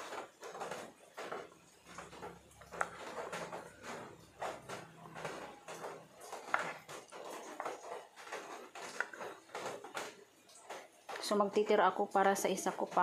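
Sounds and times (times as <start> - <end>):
plastic cup scraping plastic bowl: 0.0 - 11.4.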